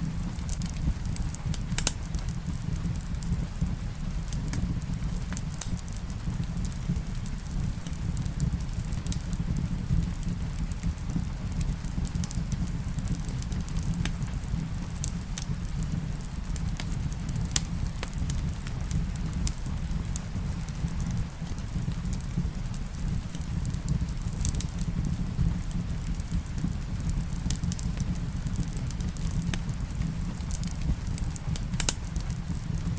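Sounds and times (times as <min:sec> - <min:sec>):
soft hiss of rain: 0:00.0 - 0:32.9
wood fire crackling: 0:00.0 - 0:32.9.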